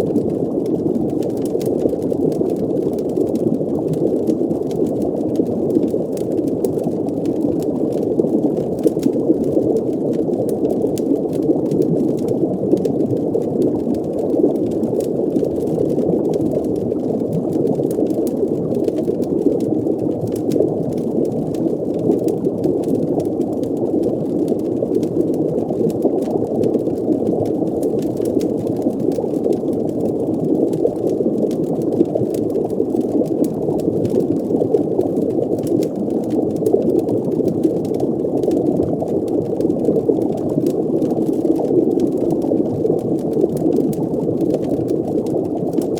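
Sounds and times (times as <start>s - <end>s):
faint light crackles: 0.0s - 45.9s
underwater bubbling rush: 0.0s - 45.9s.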